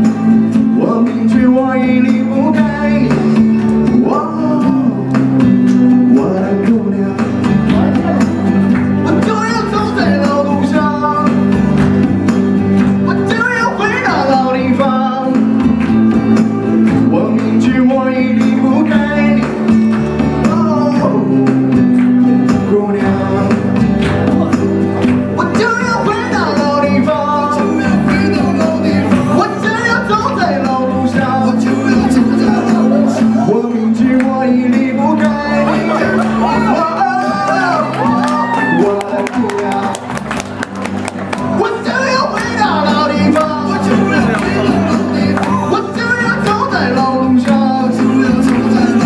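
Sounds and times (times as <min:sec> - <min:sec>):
rock song playing: 0:00.0 - 0:49.0.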